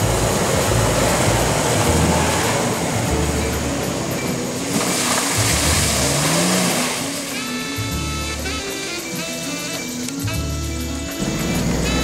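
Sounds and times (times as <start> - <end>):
background music: 0.0 - 12.0
suv engine driving off: 0.0 - 12.0.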